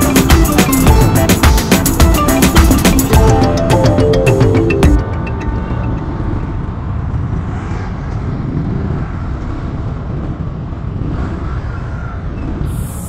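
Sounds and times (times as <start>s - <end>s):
vehicle rumbling on road: 1.9s - 13.0s.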